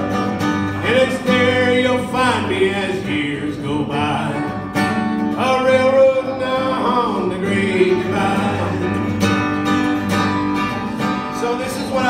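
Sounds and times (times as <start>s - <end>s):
man singing: 0.0s - 9.3s, 11.2s - 12.0s
acoustic guitar strumming: 0.0s - 12.0s.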